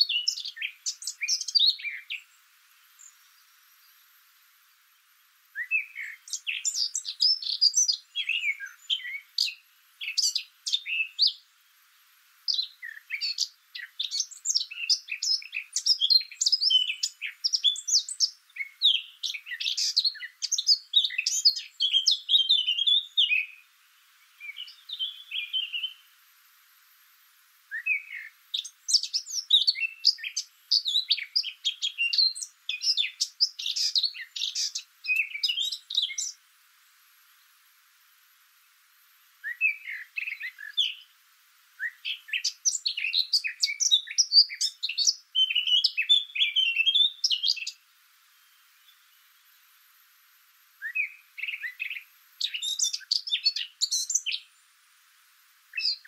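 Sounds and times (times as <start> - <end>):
birds chirping: 0.0 - 26.2, 27.7 - 36.5, 39.4 - 41.2, 41.8 - 49.6, 50.8 - 54.7, 55.7 - 56.0.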